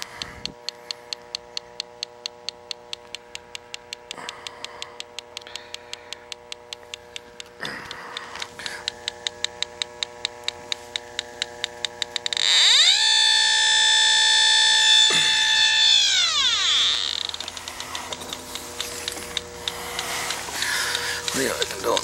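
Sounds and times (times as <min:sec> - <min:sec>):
faint steady hum: 0:00.0 - 0:22.0
leak detector ticking: 0:00.0 - 0:22.0.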